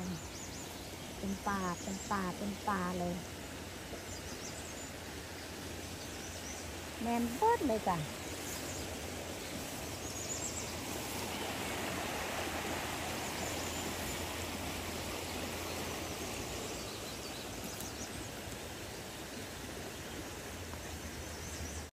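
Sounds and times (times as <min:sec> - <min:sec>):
stream water rushing: 0:00.0 - 0:21.9.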